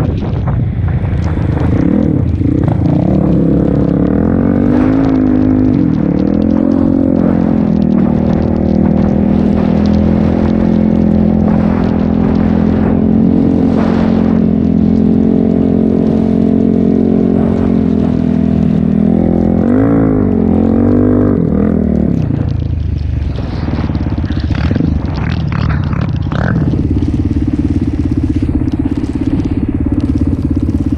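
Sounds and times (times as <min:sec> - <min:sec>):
atv engine revving: 0:01.0 - 0:30.9.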